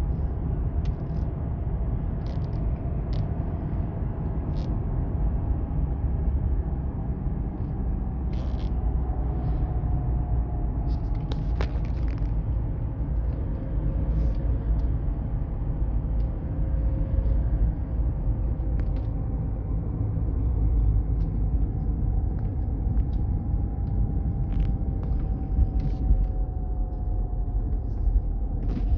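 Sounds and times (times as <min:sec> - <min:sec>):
car road rumble: 0:00.0 - 0:28.9.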